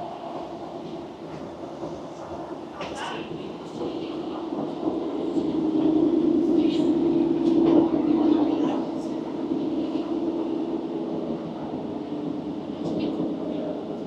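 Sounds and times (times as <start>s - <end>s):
train engine hum: 0.0s - 14.0s.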